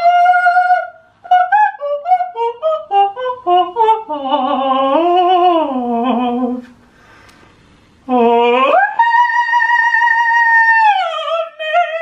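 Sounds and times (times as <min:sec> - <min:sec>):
man singing unaccompanied: 0:00.0 - 0:06.8, 0:08.0 - 0:12.0.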